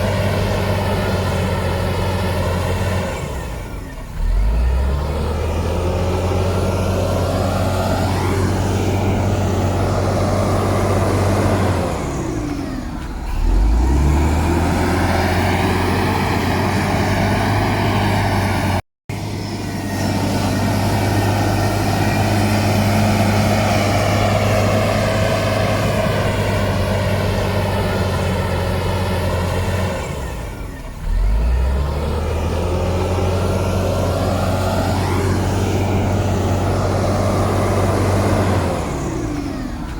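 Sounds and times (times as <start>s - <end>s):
heavy diesel engine under load: 0.0s - 39.9s.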